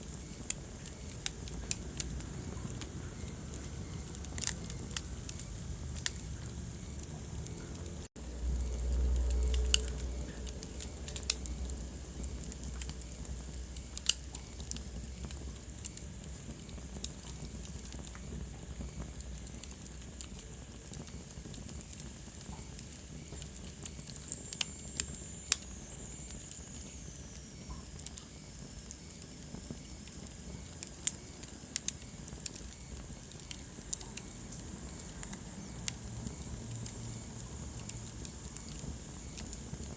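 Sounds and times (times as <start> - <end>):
soft fire hiss: 0.0 - 39.9
wood fire crackling: 0.0 - 39.9.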